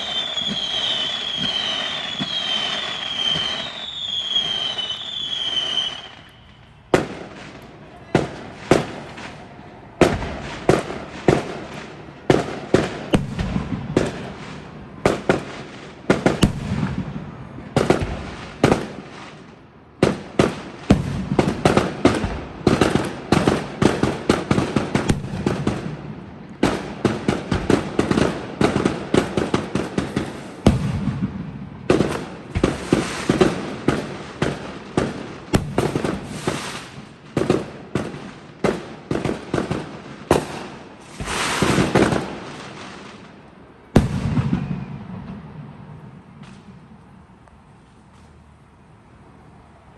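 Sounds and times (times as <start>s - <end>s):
fireworks bangs and crackles: 0.0s - 47.4s.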